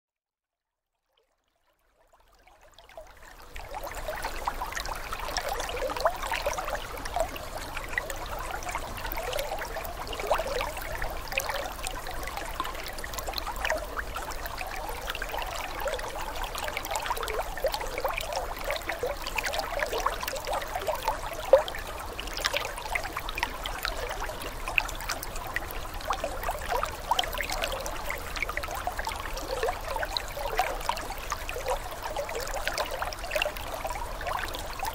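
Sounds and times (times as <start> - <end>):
aquarium water trickling: 1.2 - 34.9.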